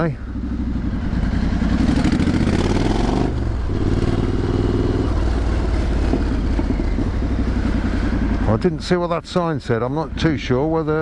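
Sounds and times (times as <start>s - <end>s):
motorcycle engine and exhaust: 0.0s - 11.0s.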